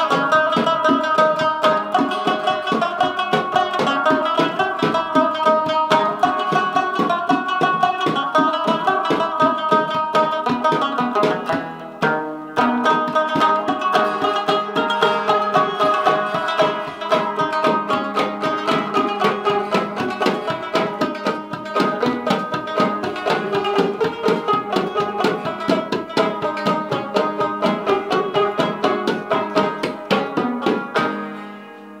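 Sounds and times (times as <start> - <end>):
hand drumming on metal tin: 0.0 - 31.3
plucked lute runs: 0.0 - 32.0.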